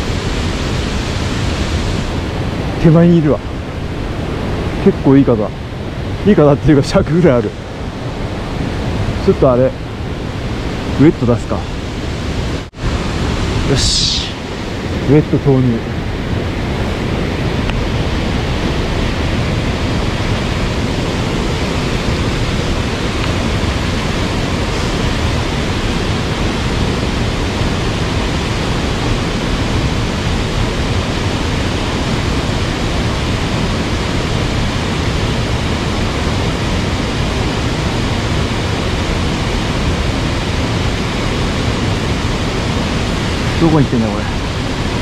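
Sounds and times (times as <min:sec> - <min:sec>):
mountain stream rushing: 0:00.0 - 0:45.0.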